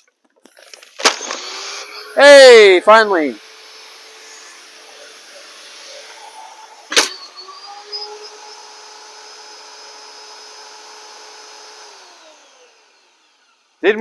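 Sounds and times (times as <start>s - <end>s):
pressure washer motor running: 0.6s - 14.0s.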